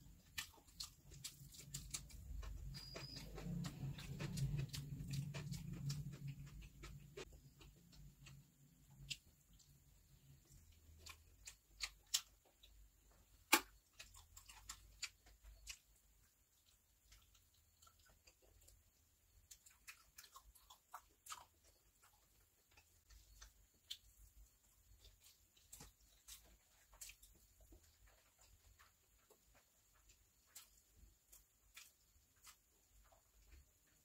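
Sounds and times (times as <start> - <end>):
chewing and lip smacks: 0.1 - 34.0.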